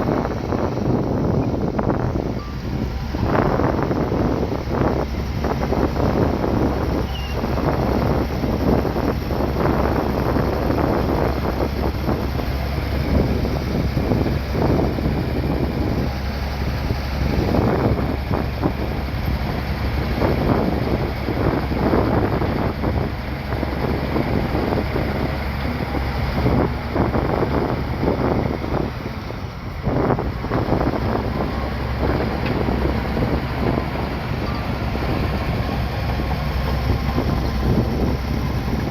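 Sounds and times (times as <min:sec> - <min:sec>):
bulldozer engine running: 0:00.0 - 0:38.9
wind buffeting microphone: 0:00.0 - 0:38.9.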